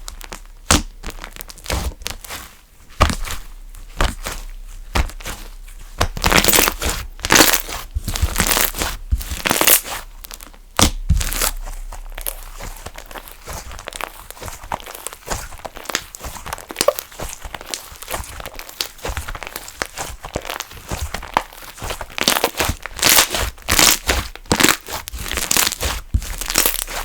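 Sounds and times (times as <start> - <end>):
slime squelching by hand: 0.0 - 27.0.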